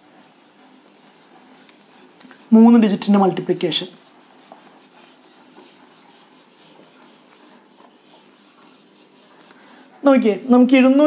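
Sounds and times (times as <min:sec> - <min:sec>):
whiteboard being wiped: 0:00.0 - 0:10.1.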